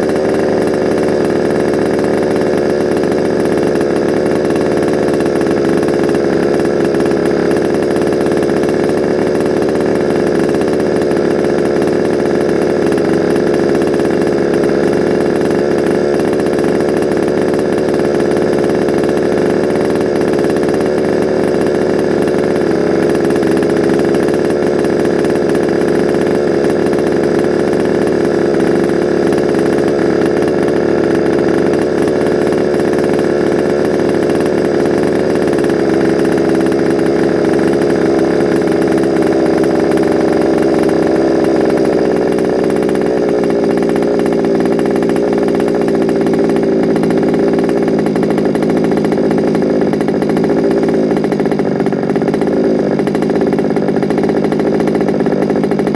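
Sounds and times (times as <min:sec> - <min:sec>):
two-stroke engine running: 0:00.0 - 0:55.9.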